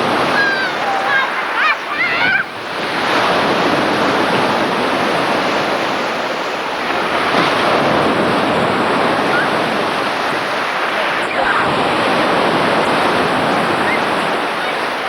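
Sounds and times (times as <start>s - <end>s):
sea surf washing in: 0.0s - 15.0s
wind on microphone: 0.0s - 15.0s.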